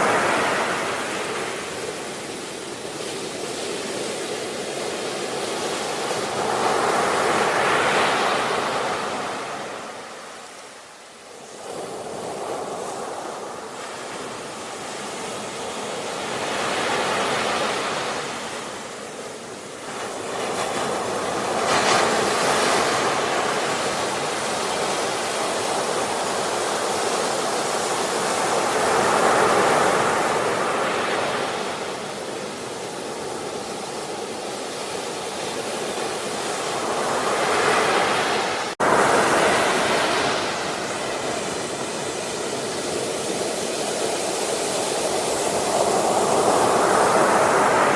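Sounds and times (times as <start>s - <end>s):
sea waves breaking on shore: 0.0s - 47.9s.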